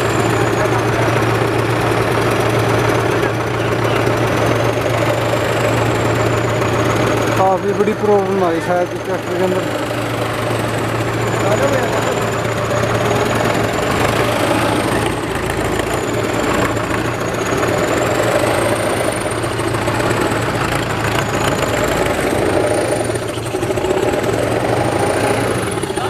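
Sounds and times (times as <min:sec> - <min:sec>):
tractor diesel engine knocking: 0:00.0 - 0:26.0.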